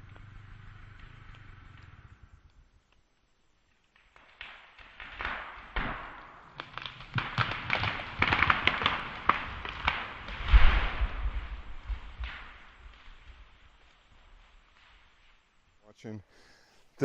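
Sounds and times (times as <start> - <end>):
wood cracking and snapping: 0.0 - 15.4.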